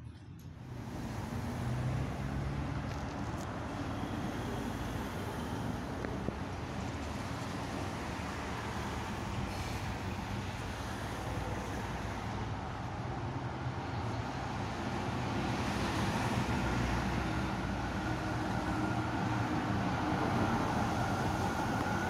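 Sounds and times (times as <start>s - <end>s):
passing vehicles hum: 0.3s - 22.0s.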